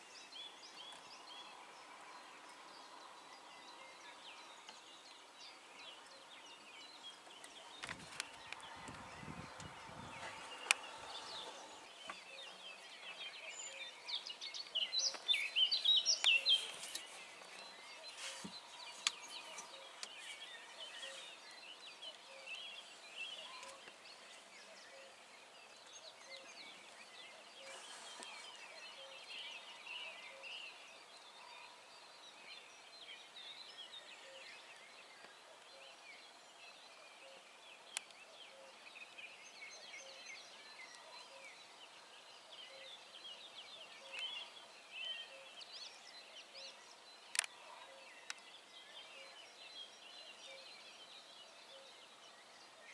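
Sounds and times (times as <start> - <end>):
songbirds singing: 0.0 - 52.9.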